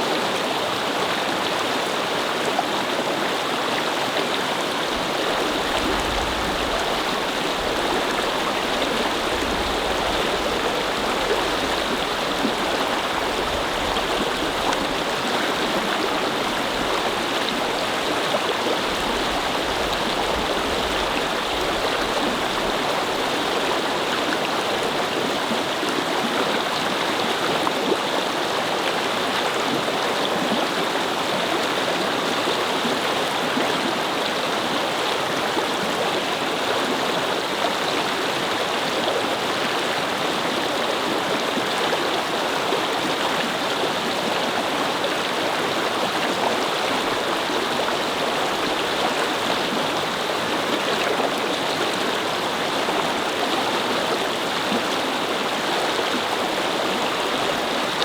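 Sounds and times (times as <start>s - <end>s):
water flowing over rocks: 0.0s - 58.0s.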